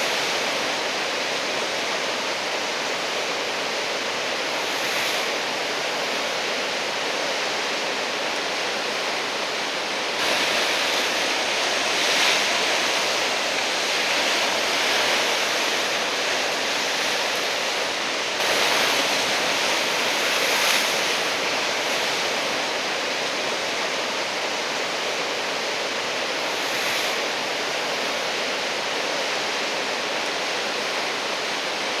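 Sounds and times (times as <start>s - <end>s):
heavy surf breaking: 0.0s - 30.2s.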